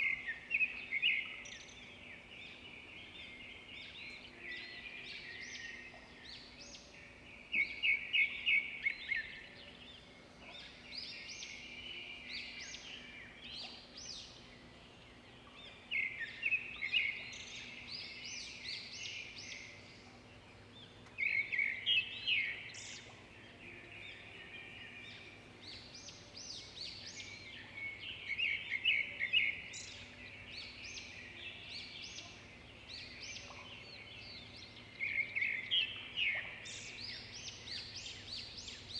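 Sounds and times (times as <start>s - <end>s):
faint steady low hum: 0.0s - 38.9s.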